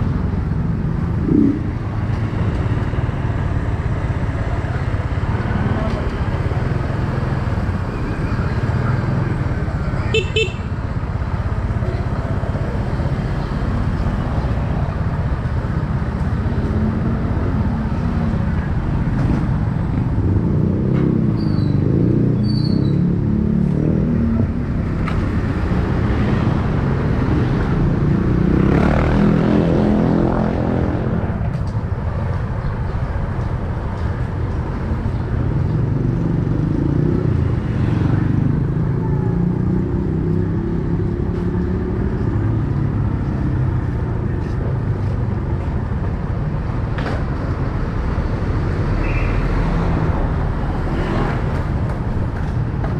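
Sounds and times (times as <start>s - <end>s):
street traffic: 0.0s - 52.9s.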